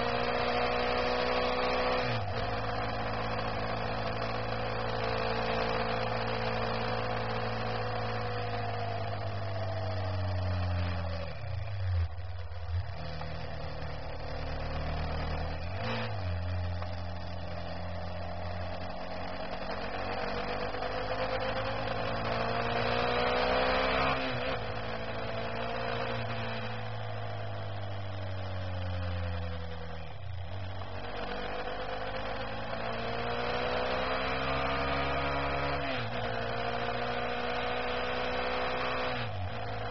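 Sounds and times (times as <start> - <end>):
vehicle engine revving: 0.0 - 39.9
wind and road noise: 0.0 - 39.9.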